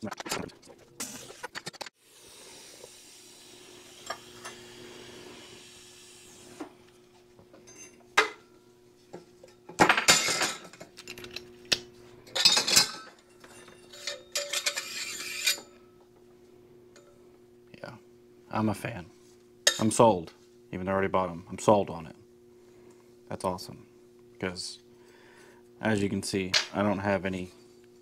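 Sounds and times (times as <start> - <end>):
low steady hum: 2.0 - 28.0.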